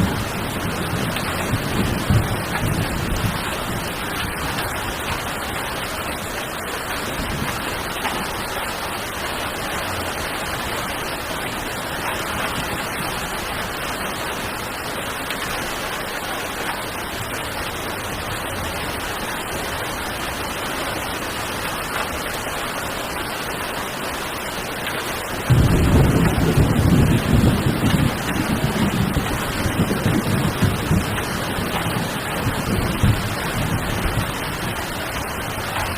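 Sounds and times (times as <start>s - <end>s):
heavy rain: 0.0s - 35.9s.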